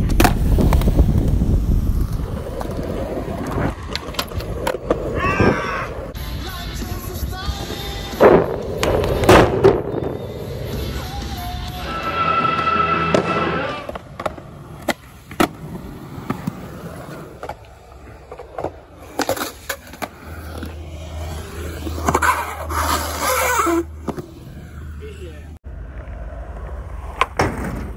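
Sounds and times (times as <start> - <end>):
skateboard wheels rumbling on concrete: 0.0 - 27.9.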